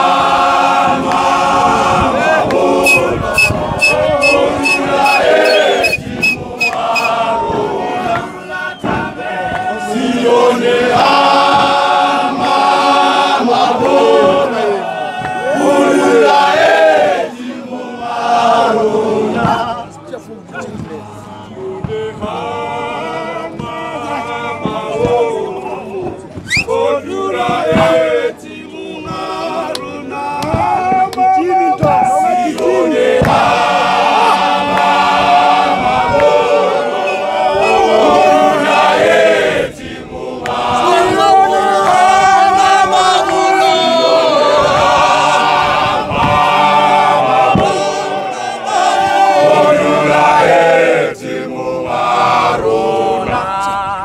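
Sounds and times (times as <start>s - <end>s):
men's choir singing a cappella: 0.0s - 20.0s, 20.6s - 54.0s.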